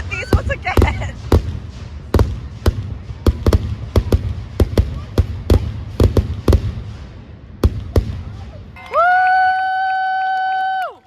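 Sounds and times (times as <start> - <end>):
low rumble: 0.0 - 9.5
fireworks bangs: 0.0 - 10.8.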